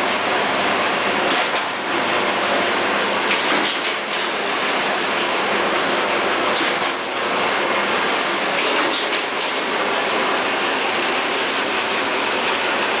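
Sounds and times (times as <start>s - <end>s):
sheet-feeding machine running: 0.0s - 13.0s.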